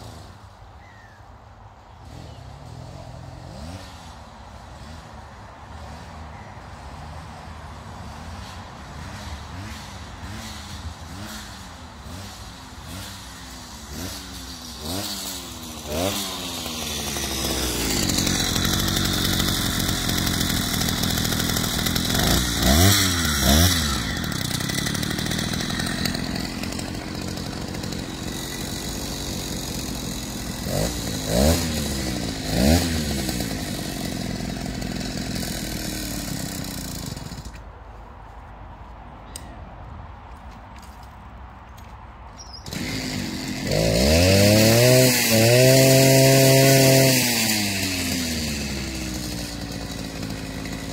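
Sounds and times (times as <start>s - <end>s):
small engine sputtering and revving: 0.0s - 1.2s, 1.8s - 37.6s, 42.4s - 50.9s.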